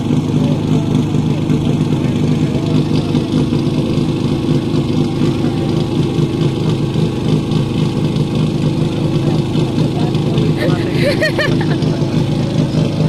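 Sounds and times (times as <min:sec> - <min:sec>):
pump engine idling: 0:00.0 - 0:13.0.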